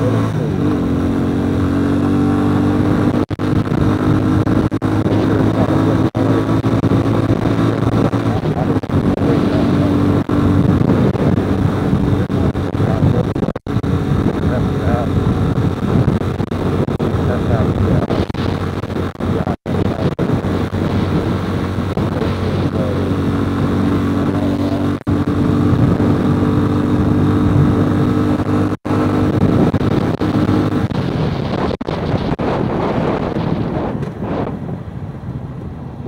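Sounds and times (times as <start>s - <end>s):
wind noise on microphone: 0.0s - 36.0s.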